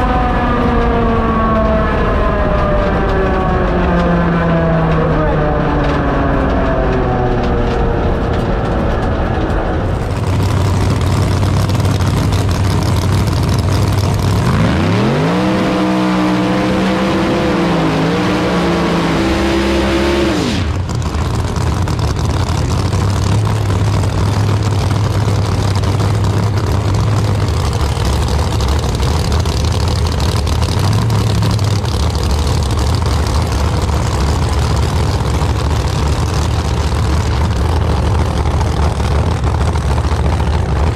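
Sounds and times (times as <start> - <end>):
drag racing car engines: 0.0 - 40.9.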